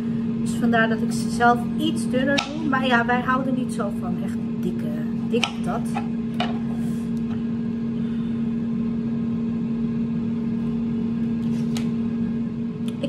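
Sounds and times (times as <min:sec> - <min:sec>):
machine hum with low rumble: 0:00.0 - 0:13.0.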